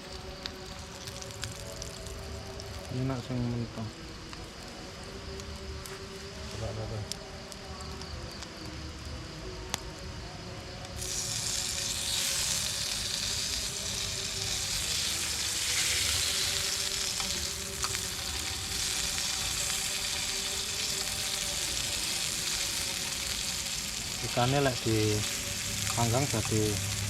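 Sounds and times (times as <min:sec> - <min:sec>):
food sizzling in a pan: 0:00.0 - 0:09.0, 0:10.9 - 0:27.0.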